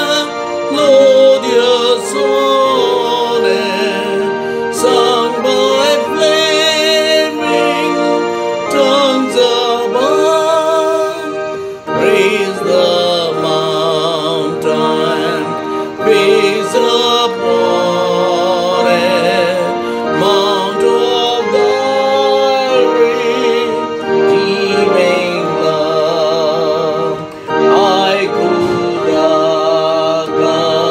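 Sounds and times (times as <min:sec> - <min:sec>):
solo voice singing a hymn: 0:00.0 - 0:30.9
sustained instrumental accompaniment: 0:00.0 - 0:30.9.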